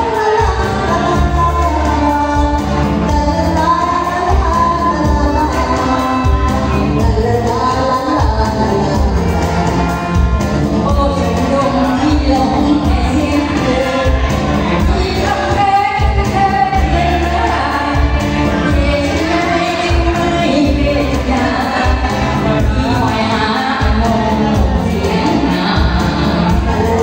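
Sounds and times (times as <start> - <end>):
amplified backing music with bass beat: 0.0 - 27.0
woman singing into a microphone: 0.0 - 27.0.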